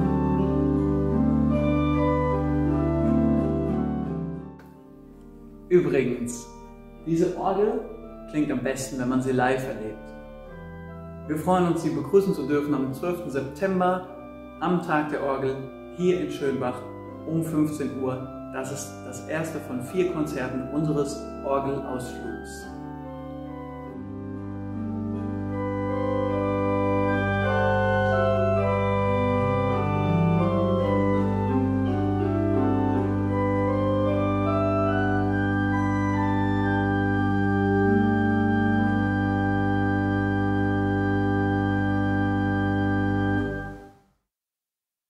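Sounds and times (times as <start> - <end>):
pipe organ playing slow piece: 0.0 - 44.0.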